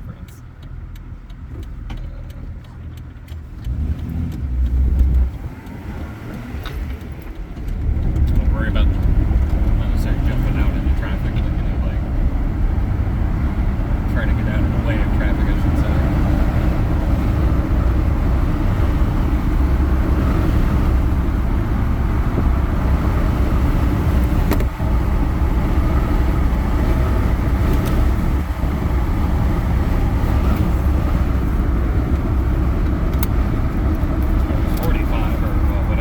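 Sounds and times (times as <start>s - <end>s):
engine and road noise rumble: 0.0s - 36.0s.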